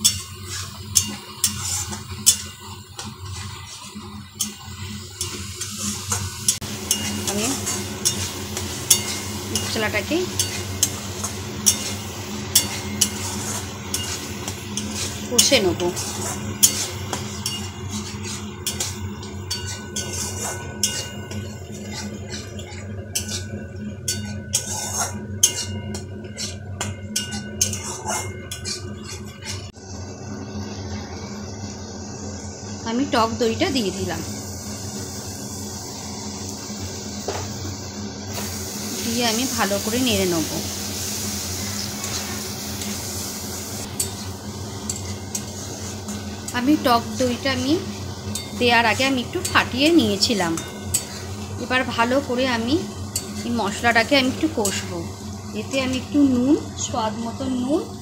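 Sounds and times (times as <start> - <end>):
spatula scraping a wok: 0.0 - 29.8, 38.3 - 56.4
faint sizzle: 0.0 - 58.0
steady low hum: 0.0 - 58.0.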